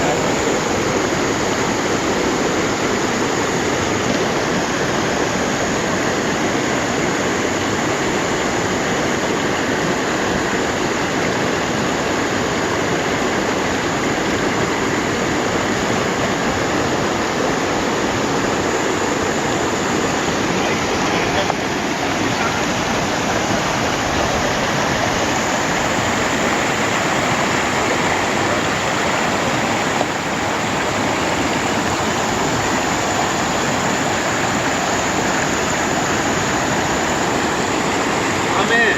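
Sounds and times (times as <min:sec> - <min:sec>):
stream rushing water: 0:00.0 - 0:38.9.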